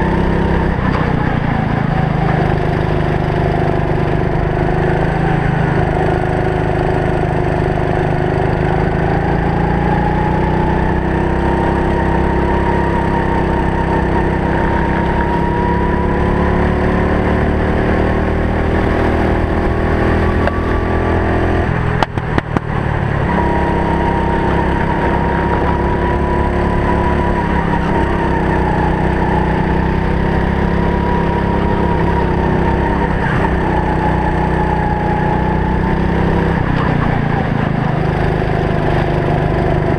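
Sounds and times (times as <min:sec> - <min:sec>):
racing kart engine under load: 0:00.0 - 0:39.9.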